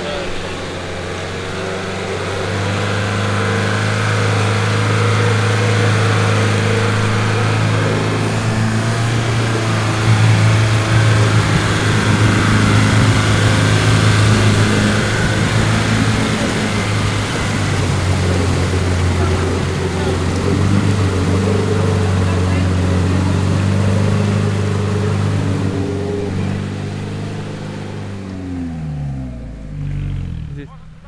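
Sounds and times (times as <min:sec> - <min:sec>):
engine droning under load: 0:00.0 - 0:31.0.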